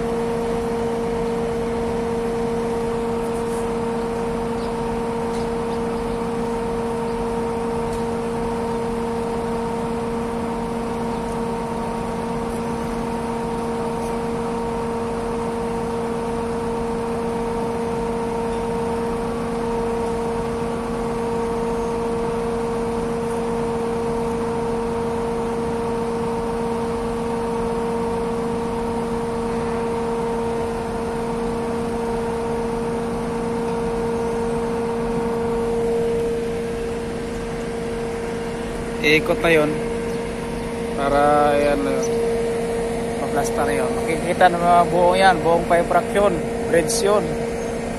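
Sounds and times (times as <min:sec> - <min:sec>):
crane diesel engine and hydraulics: 0:00.0 - 0:47.9.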